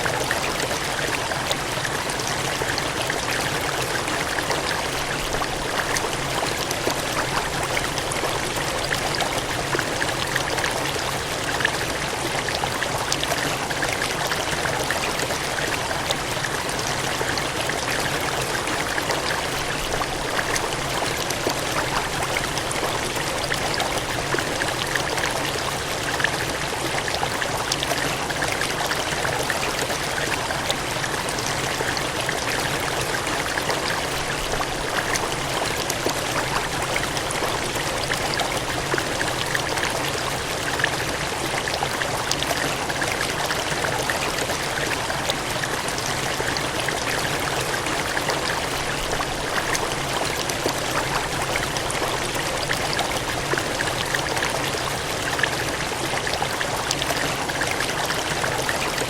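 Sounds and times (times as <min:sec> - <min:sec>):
water gushing and cascading: 0:00.0 - 0:59.0.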